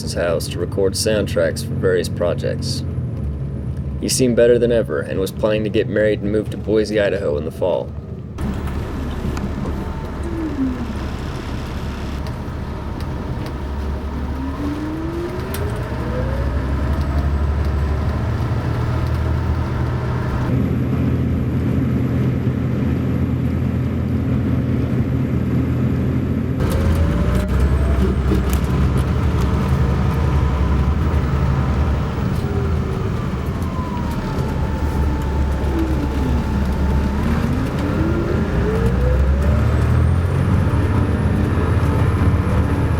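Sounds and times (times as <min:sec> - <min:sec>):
bus engine droning: 0:00.0 - 0:42.9.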